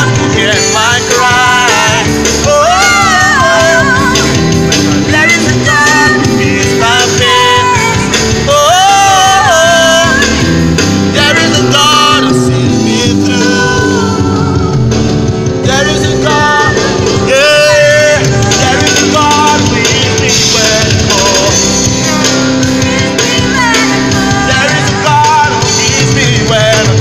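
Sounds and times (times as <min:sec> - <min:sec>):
keyboard accompaniment: 0:00.0 - 0:27.0
man and woman singing gospel: 0:00.0 - 0:27.0.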